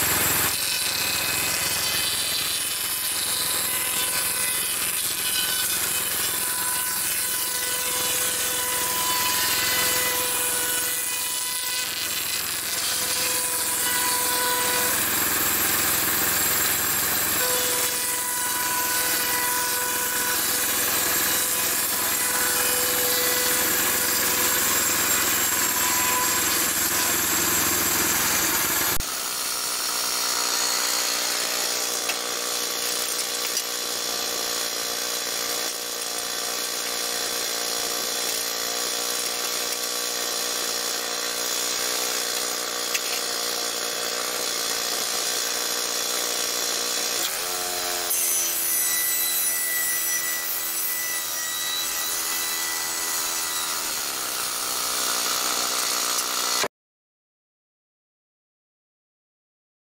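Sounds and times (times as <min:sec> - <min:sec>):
band blade cutting wood: 0:00.0 - 0:56.7.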